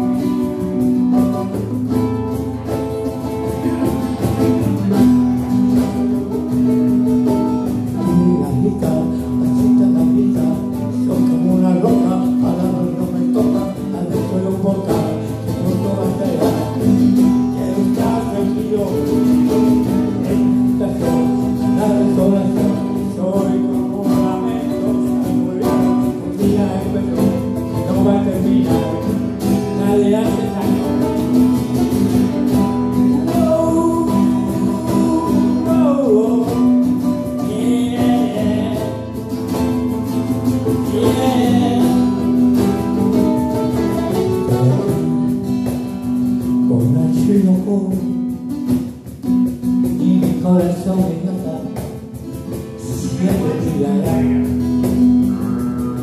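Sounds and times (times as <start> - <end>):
mandolin: 0.0 - 47.1
hand percussion beat: 0.0 - 56.0
strummed acoustic guitar: 0.0 - 56.0.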